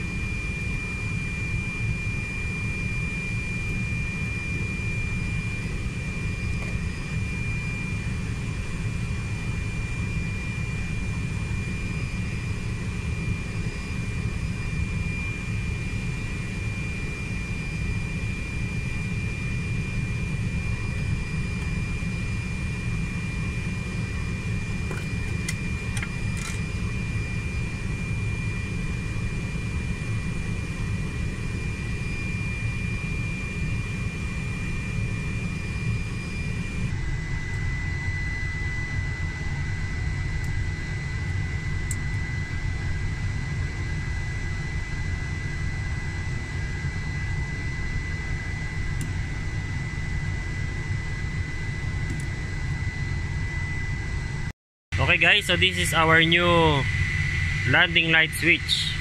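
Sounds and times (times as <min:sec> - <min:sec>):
jet low rumble: 0:00.0 - 0:32.7, 0:36.3 - 0:59.0
constant high whine: 0:00.0 - 0:59.0.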